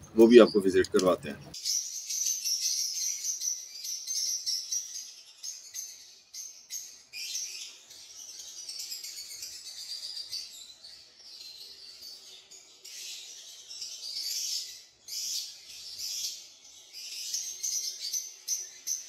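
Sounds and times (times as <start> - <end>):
lovebirds chattering and chirping: 0.0 - 19.0.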